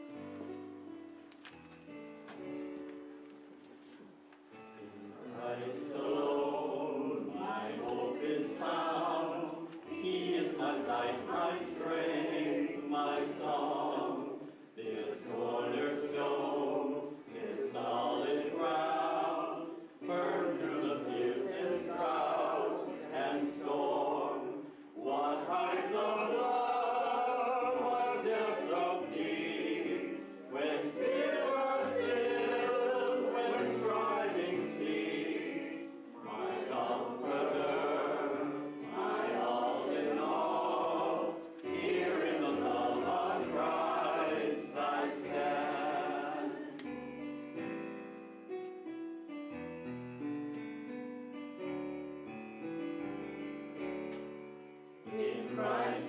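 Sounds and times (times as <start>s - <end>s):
congregation singing a hymn: 4.5s - 48.4s, 54.2s - 56.0s.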